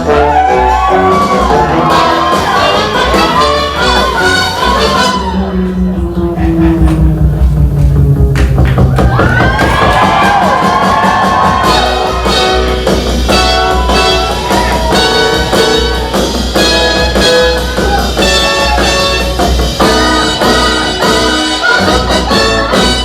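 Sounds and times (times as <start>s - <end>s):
brass horn music: 0.0s - 8.4s, 9.6s - 23.0s
heavy bass: 0.0s - 23.0s.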